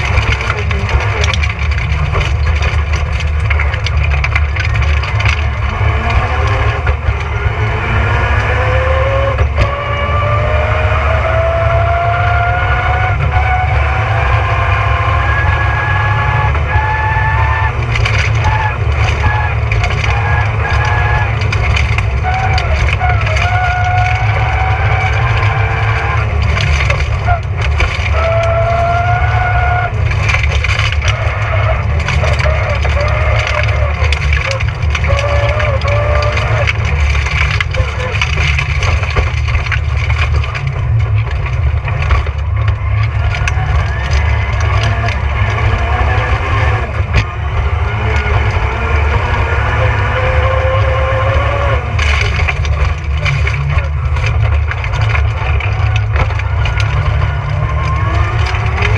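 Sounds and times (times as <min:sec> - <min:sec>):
stones rattling against underbody: 0:00.0 - 0:09.8, 0:15.8 - 0:58.9
rally car engine revving: 0:00.0 - 0:58.9
road rumble: 0:00.0 - 0:58.9.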